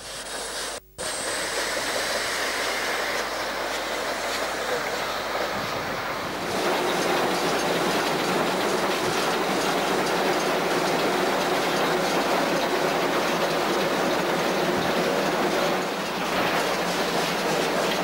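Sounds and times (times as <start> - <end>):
steam locomotive running: 0.0 - 18.0.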